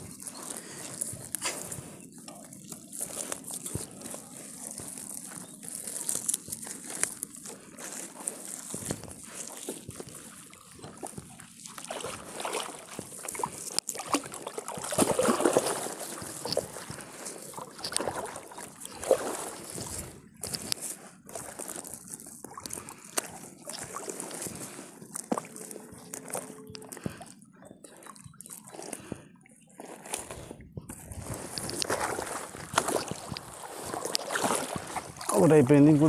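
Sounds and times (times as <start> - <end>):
wet net rustling: 0.0 - 36.0
water dripping and splashing: 2.3 - 27.3, 31.3 - 36.0.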